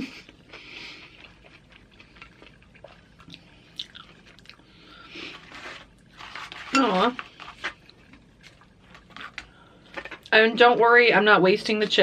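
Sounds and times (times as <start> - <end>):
person chewing crunchy chips: 0.1 - 10.2.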